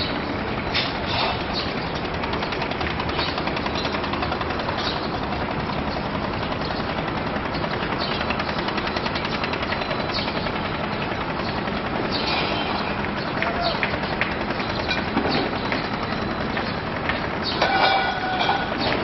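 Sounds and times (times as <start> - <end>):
construction machinery rattling: 0.0 - 19.0.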